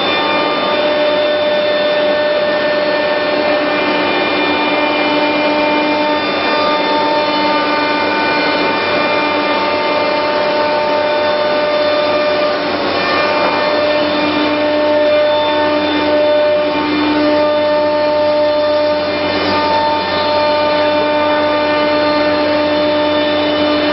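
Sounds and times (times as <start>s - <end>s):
woodworking machine running: 0.0s - 23.9s.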